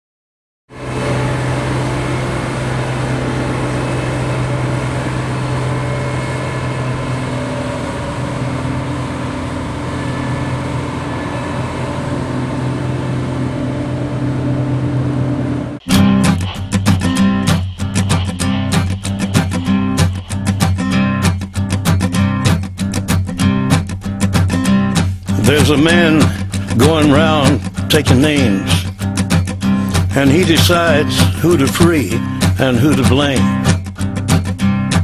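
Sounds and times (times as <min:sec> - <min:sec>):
diesel engine running: 0:00.7 - 0:35.0
guitar music: 0:00.7 - 0:35.0.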